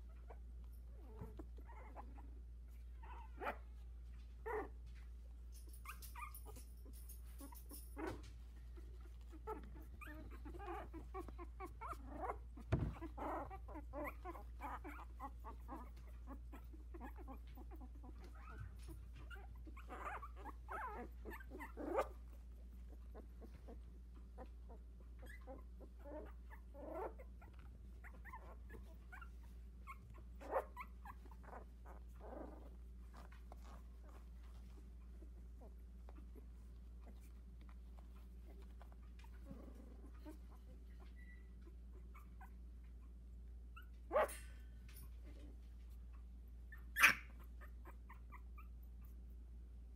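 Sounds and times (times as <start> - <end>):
puppies whimpering and squeaking: 0.0 - 49.6.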